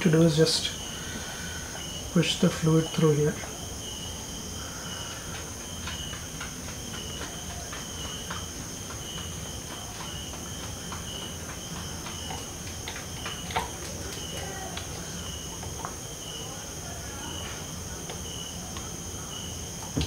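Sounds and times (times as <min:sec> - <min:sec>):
high insect drone: 0:00.0 - 0:20.0
insects chirping: 0:00.0 - 0:20.0.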